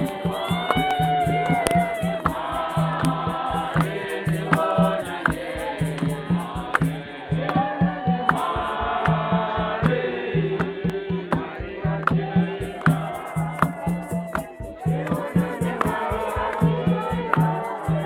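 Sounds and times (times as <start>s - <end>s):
crowd singing: 0.0s - 18.0s
steady repeating beat: 0.0s - 18.0s.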